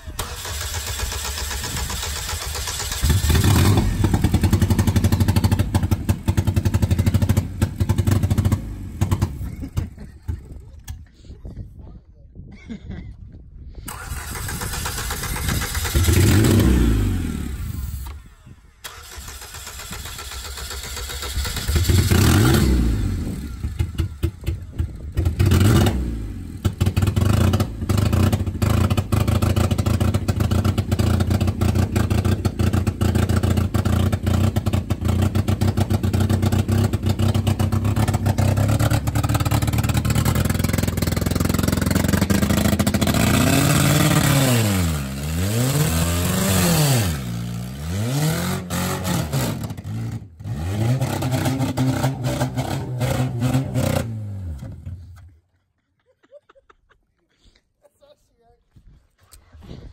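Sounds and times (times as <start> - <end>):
car engine revving and sputtering: 0.0 - 10.2, 14.1 - 18.0, 18.9 - 55.0.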